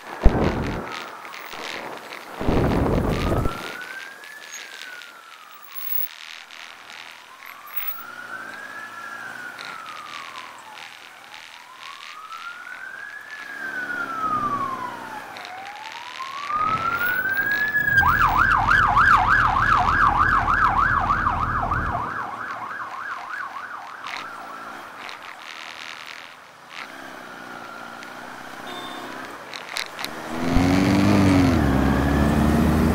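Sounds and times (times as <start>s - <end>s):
emergency siren wailing and yelping: 0.0s - 32.9s
low road rumble: 0.0s - 32.9s.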